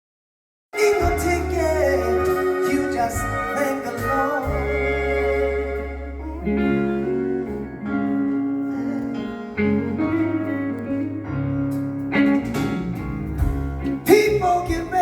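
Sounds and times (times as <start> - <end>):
guitar playing slow chords: 0.8 - 15.0.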